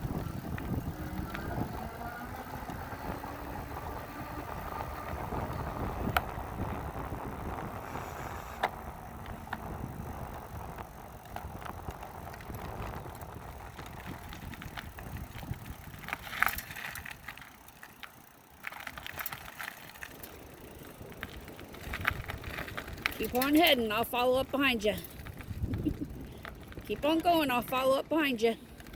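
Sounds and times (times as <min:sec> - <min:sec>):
wind rumble on microphone: 0:00.0 - 0:18.2, 0:18.8 - 0:28.9
bike clicks and rattles: 0:00.0 - 0:28.9
tyres on road: 0:00.0 - 0:28.9.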